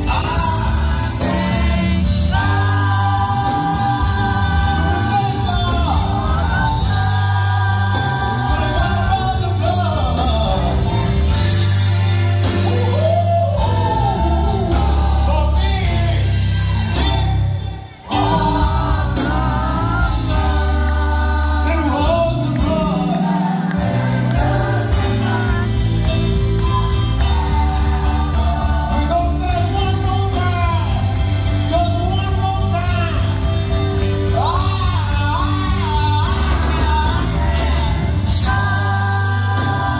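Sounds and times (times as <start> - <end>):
gospel choir with instruments: 0.0 - 39.9.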